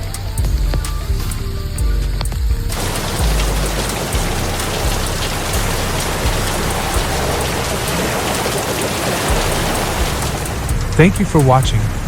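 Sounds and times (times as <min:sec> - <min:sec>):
heavy rain pouring: 0:00.0 - 0:12.0
low rumble: 0:00.0 - 0:12.0.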